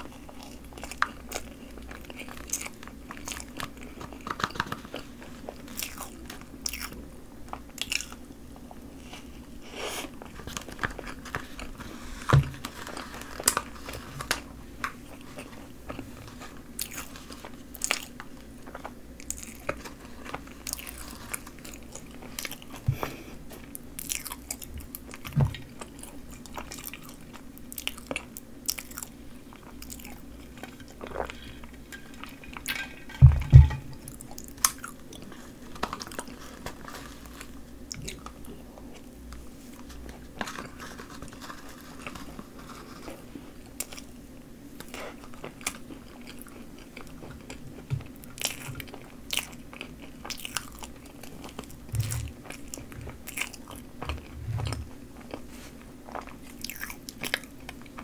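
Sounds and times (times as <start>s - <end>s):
close chewing and mouth sounds: 0.0s - 33.2s, 34.0s - 58.0s
faint low hum: 0.0s - 58.0s.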